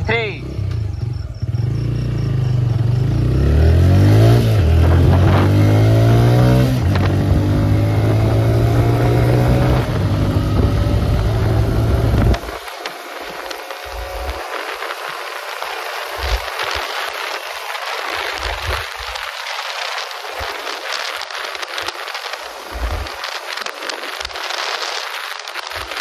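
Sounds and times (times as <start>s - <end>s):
motorcycle engine accelerating: 0.0s - 26.0s
wind hiss: 3.5s - 26.0s.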